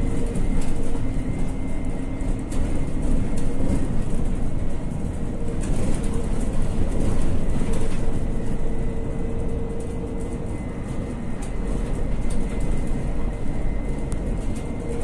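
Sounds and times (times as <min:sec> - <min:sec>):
bus running noise: 0:00.0 - 0:15.0
thin steady whine: 0:00.0 - 0:15.0.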